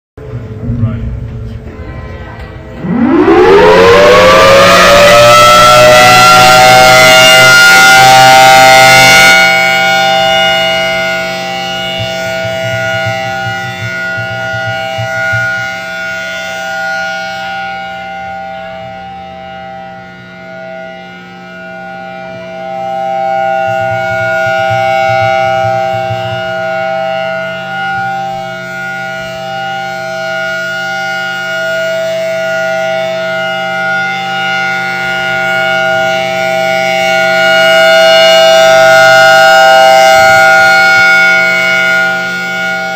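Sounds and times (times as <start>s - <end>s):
warning siren steady tone: 0.2s - 42.9s.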